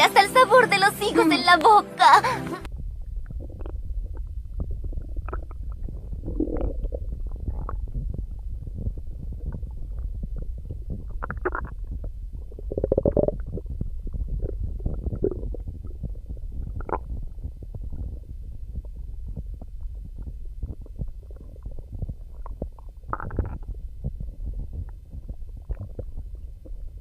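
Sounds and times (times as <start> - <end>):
stomach growling and gurgling: 2.7 - 27.0.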